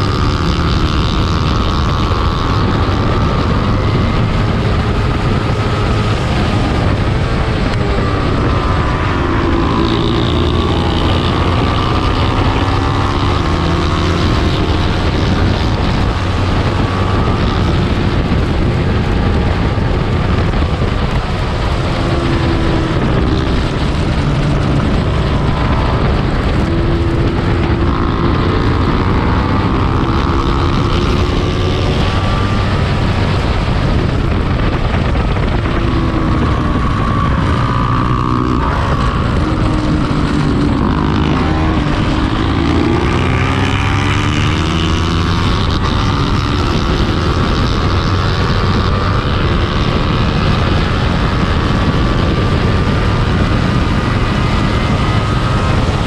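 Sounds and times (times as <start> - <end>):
racing motorcycle engine: 0.0 - 56.0
wind noise: 0.0 - 56.0.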